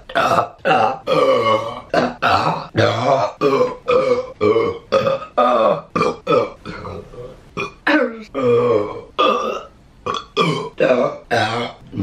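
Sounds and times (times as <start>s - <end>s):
woman belching: 0.0s - 12.0s.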